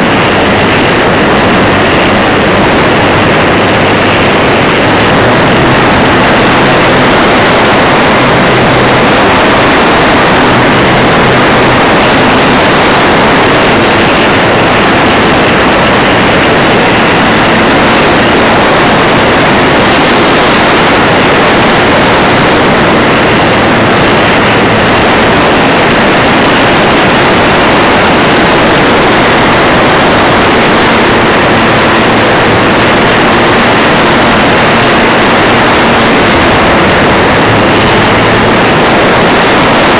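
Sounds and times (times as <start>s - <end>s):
model airplane motor drone: 0.0s - 39.9s.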